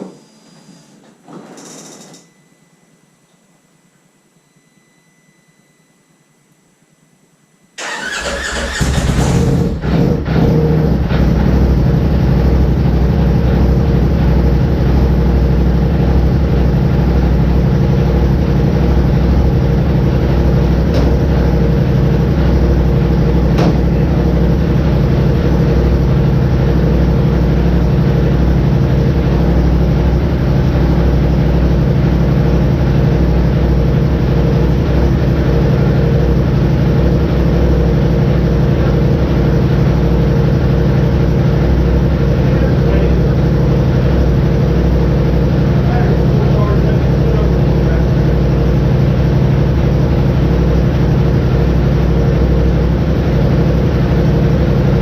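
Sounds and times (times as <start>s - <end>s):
engine idling: 7.8s - 55.0s.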